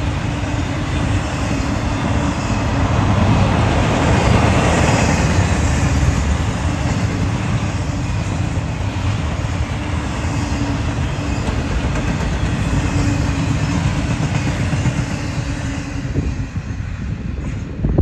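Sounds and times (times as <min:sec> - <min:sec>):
freight train rolling on rails: 0:00.0 - 0:18.0.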